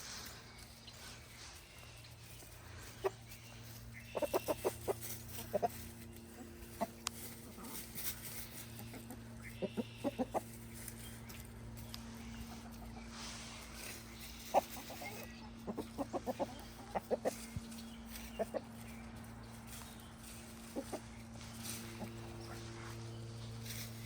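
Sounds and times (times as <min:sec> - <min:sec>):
chickens clucking: 0:00.0 - 0:24.0
steady low hum: 0:00.0 - 0:24.0.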